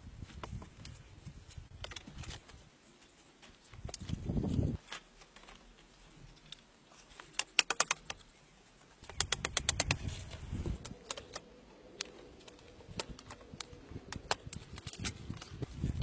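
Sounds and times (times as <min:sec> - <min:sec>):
bamboo stakes clicking and knocking: 0:00.3 - 0:02.6, 0:03.4 - 0:08.4, 0:09.0 - 0:16.0.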